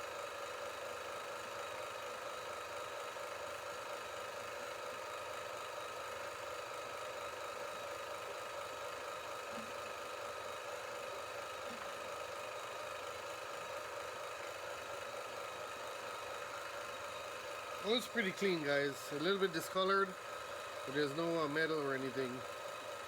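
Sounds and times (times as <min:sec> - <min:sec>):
mechanical hum with faint hiss: 0:00.0 - 0:23.0.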